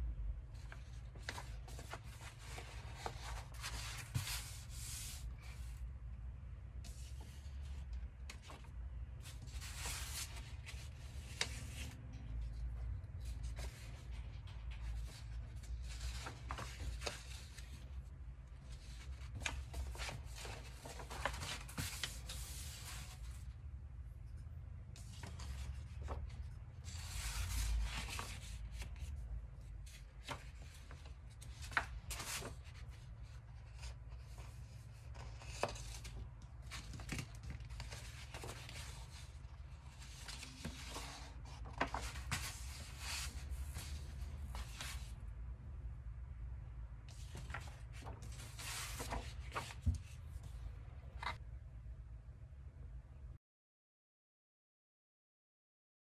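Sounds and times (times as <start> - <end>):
low steady hum: 0.0 - 53.4
paper rustling and crinkling: 0.6 - 5.8, 6.8 - 23.5, 24.3 - 45.3, 47.1 - 51.4.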